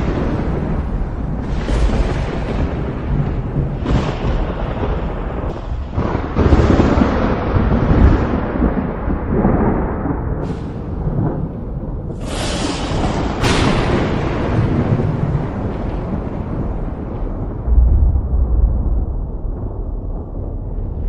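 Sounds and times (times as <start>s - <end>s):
thunder cracks: 0.0s - 21.0s
thunder rolling: 0.0s - 21.0s.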